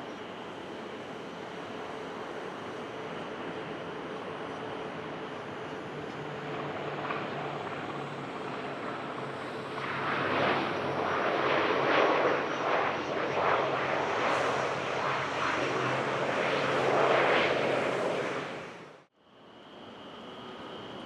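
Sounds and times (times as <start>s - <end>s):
jet aircraft passing: 0.0s - 19.1s.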